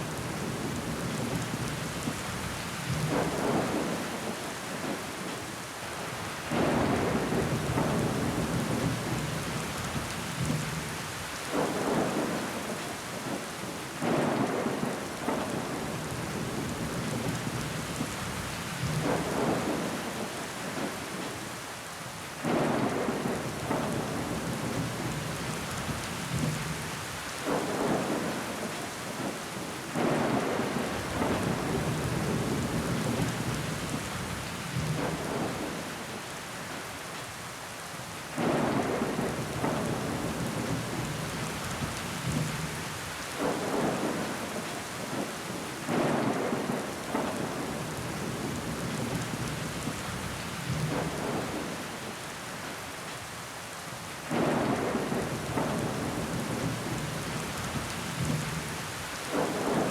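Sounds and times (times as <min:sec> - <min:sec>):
rain pattering on window glass: 0:06.5 - 0:21.5, 0:22.5 - 0:37.3, 0:38.4 - 0:53.4, 0:54.2 - 0:59.9.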